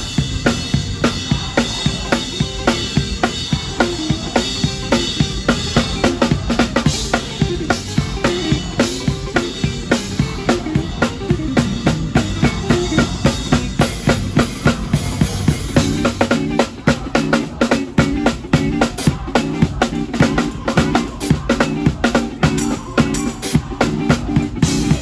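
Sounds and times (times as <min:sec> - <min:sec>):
band holding chords: 0:00.0 - 0:25.0
drum kit played hard: 0:00.0 - 0:25.0.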